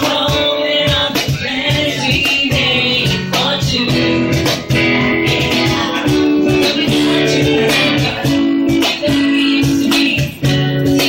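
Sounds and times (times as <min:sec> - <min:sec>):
strummed guitar chords: 0:00.0 - 0:11.0
sustained keyboard chords: 0:00.0 - 0:11.0.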